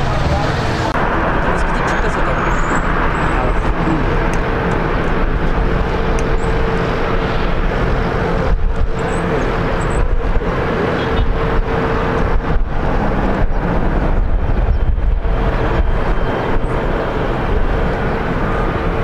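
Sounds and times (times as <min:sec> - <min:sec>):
jet engines idling: 0:00.0 - 0:19.0.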